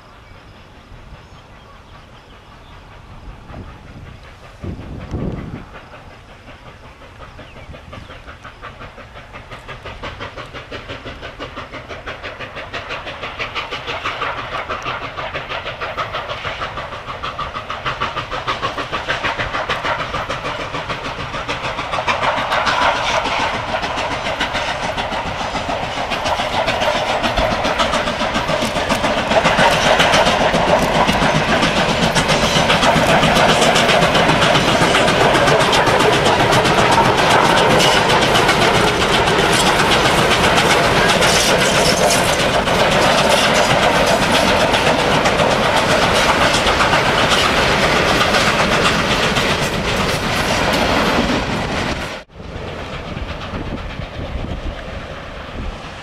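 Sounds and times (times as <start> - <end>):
steam train approaching: 0.0 - 56.0.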